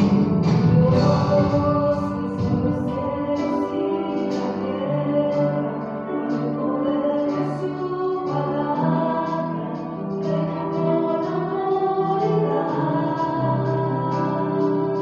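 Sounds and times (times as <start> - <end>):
choir singing a hymn: 0.0 - 15.0
instrumental accompaniment: 0.0 - 15.0.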